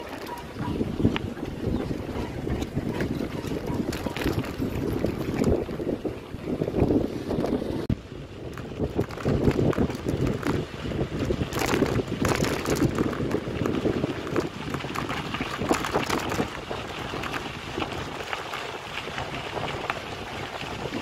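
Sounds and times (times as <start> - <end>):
tyres crackling on dirt road: 0.0 - 21.0
wind buffeting microphone: 0.0 - 21.0.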